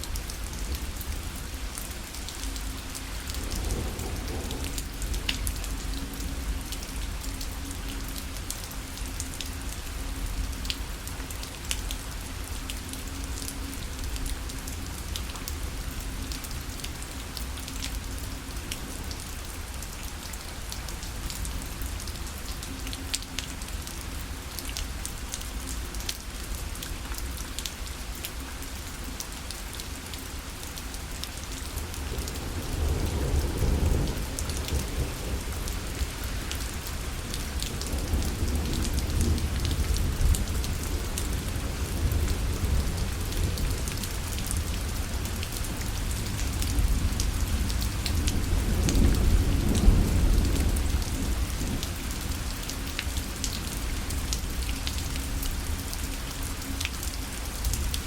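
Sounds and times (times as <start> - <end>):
rain pattering on fabric: 0.0 - 58.0.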